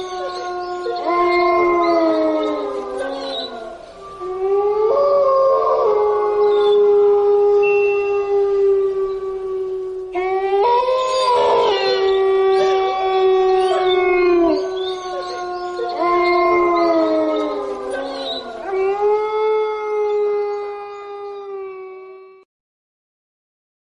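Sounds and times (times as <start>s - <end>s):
eerie wailing howls: 0.0s - 22.4s.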